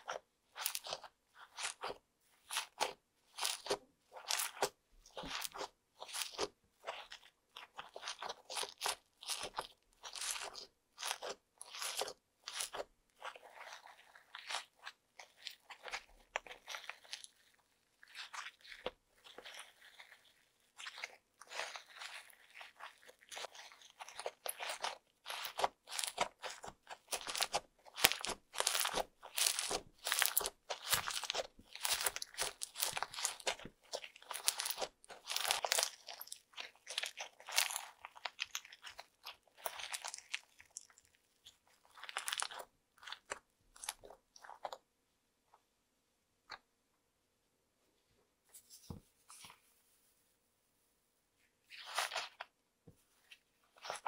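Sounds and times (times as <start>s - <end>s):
slime crackling and popping: 0.0s - 44.8s.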